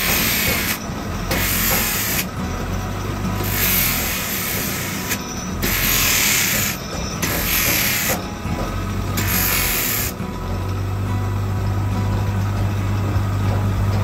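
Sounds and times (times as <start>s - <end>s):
electric motor hum: 0.0s - 14.0s
grinding wheel grinding steel: 0.0s - 14.0s.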